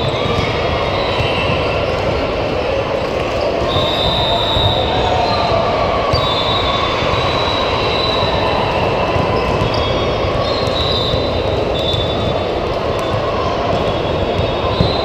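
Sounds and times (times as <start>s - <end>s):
echoing crowd din in sports hall: 0.0s - 15.0s.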